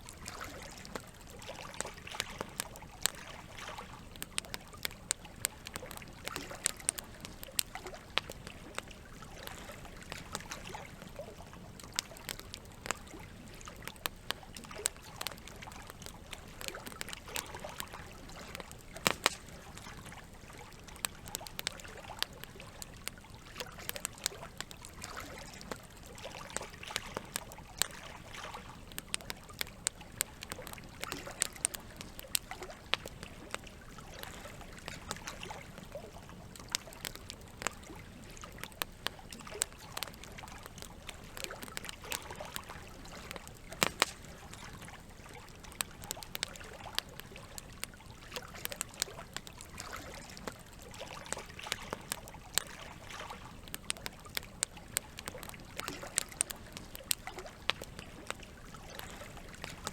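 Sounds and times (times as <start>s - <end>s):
water trickling: 0.0s - 59.9s
wood fire crackling and popping: 0.0s - 59.9s.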